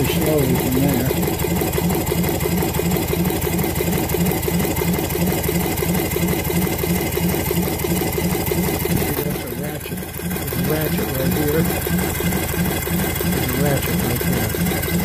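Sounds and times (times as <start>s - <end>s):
steam engine running: 0.0s - 15.0s.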